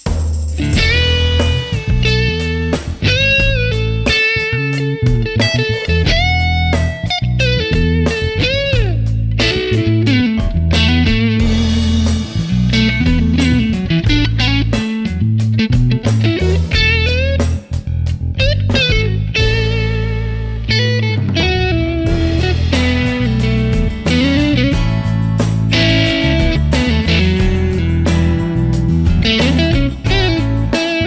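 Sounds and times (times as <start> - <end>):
steady bass: 0.0 - 31.0
electric guitar lead lines: 0.6 - 31.0.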